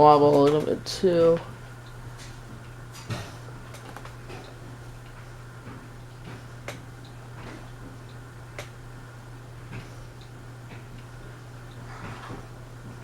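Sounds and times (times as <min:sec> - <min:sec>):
ceiling fan motor hum: 0:00.0 - 0:13.0
fan ticks and clicks: 0:00.0 - 0:13.0.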